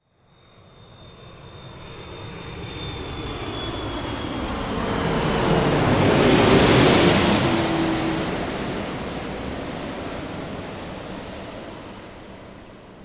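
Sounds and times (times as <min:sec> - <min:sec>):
jet engines and airflow rushing: 0:00.9 - 0:13.0.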